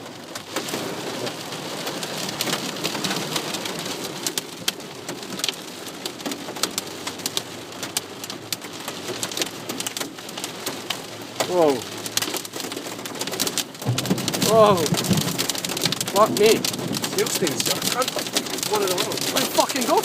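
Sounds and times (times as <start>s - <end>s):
heavy rain on car roof: 0.0s - 20.0s.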